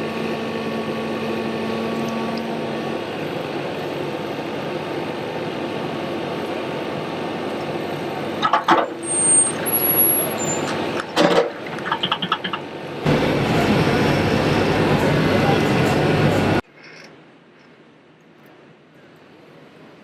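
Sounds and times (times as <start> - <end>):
diesel engine running: 0.0 - 16.6.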